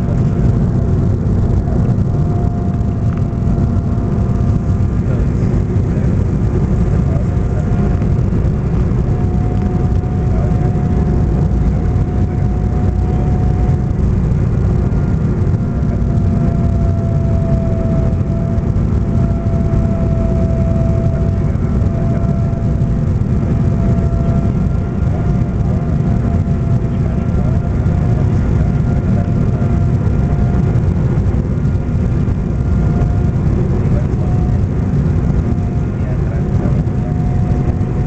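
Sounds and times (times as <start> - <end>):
airplane cabin rumble: 0.0 - 38.0
thin steady whine: 0.0 - 38.0.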